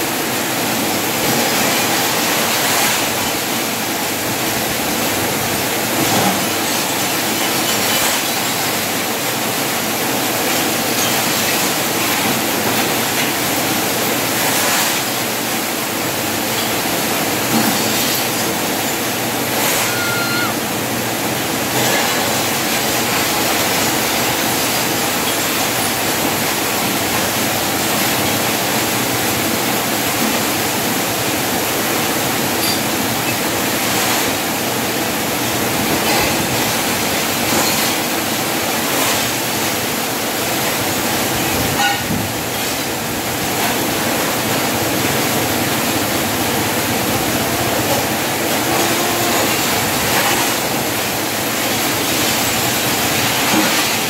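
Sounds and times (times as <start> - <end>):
rushing outdoor background noise: 0.0 - 54.0.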